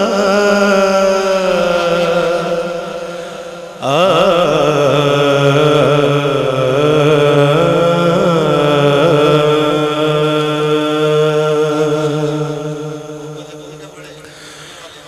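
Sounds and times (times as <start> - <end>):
person singing long wavering notes: 0.0 - 13.8.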